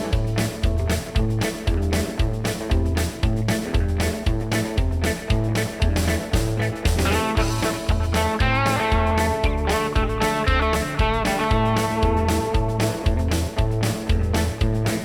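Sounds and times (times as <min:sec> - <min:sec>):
guitar instrumental with beat and bass: 0:00.0 - 0:15.0.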